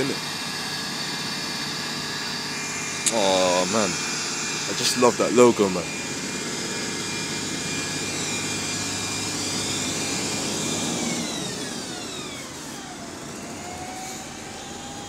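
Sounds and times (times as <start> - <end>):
whine gliding down in pitch: 0.0 - 15.0.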